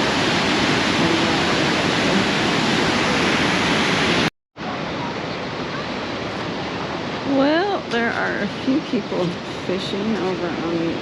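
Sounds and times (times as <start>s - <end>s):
water rushing through spillway: 0.0s - 11.0s.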